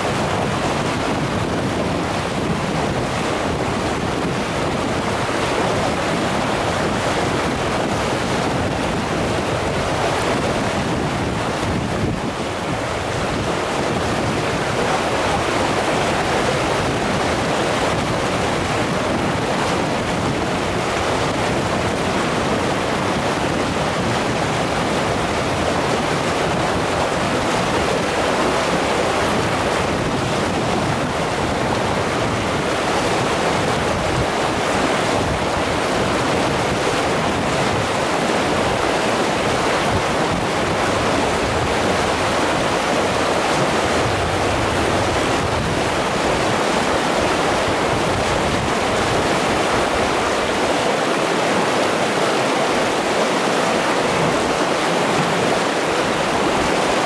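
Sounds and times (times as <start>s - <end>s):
river rapids rushing over rocks: 0.0s - 57.0s.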